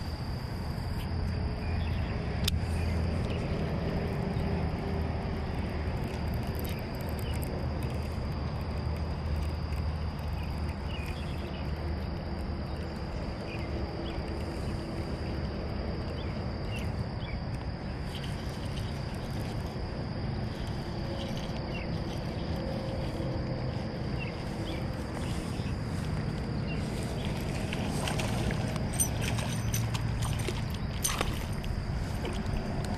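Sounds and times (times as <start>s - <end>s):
high-pitched insect chorus: 0.0s - 32.9s
low rumble: 0.0s - 32.9s.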